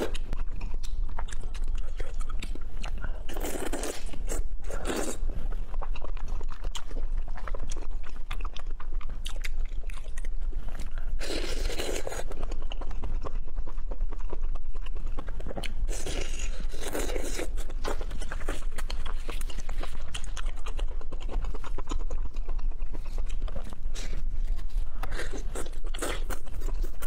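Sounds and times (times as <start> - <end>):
biting and chewing: 0.0 - 27.0.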